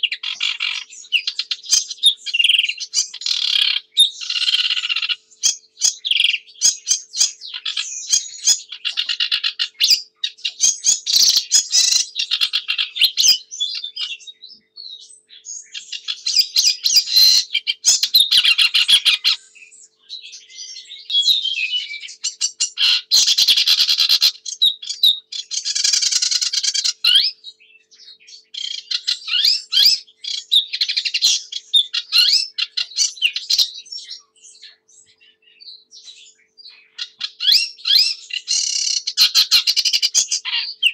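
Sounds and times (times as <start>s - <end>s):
warbler singing trills: 0.0s - 40.9s.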